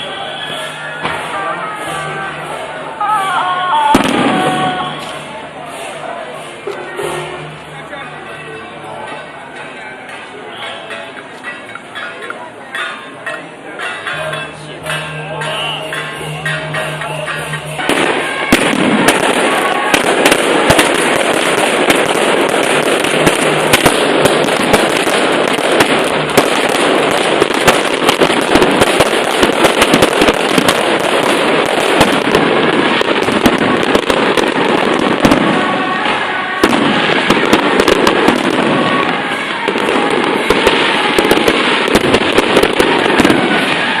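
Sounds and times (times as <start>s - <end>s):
fireworks crackling and banging: 0.0s - 44.0s.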